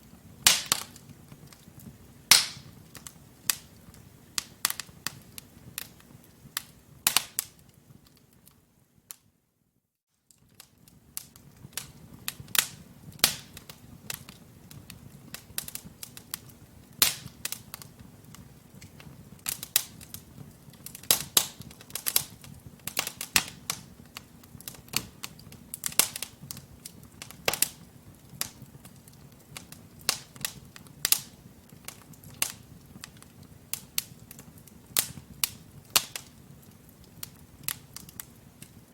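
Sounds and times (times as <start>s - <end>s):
low rumble of flame: 0.0s - 9.1s, 10.4s - 38.9s
wood fire crackling: 0.0s - 9.3s, 10.1s - 38.9s.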